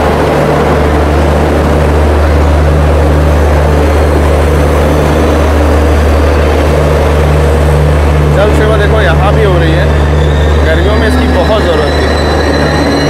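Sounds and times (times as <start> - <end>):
train engine droning: 0.0 - 13.0.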